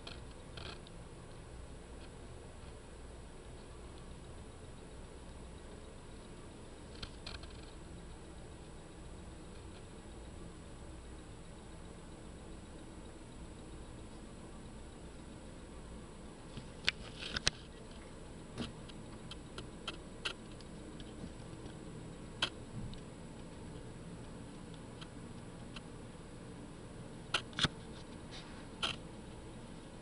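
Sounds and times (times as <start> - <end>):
faint room hum: 0.0 - 30.0.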